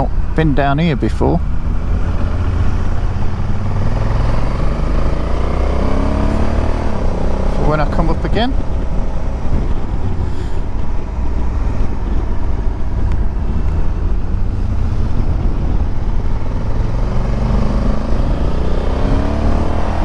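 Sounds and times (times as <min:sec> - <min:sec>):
motorcycle engine accelerating: 0:01.4 - 0:20.0
wind rush on microphone: 0:01.4 - 0:20.0.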